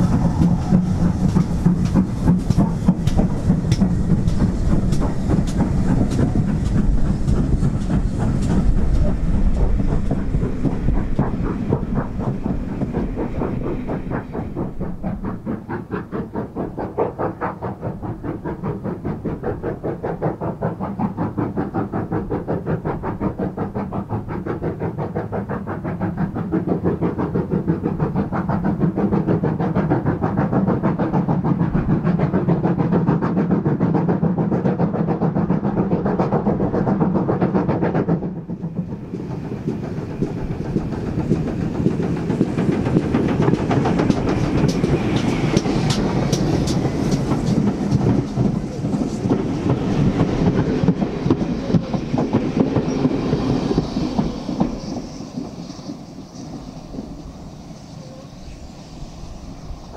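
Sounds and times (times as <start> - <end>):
wheels clacking over rail joints: 0.0 - 57.5
steam locomotive exhaust beat: 0.0 - 59.9.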